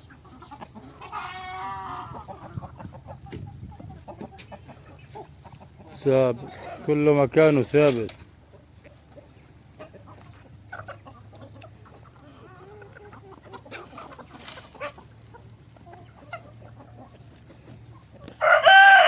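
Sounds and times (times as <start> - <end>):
chickens clucking softly: 0.0 - 19.0.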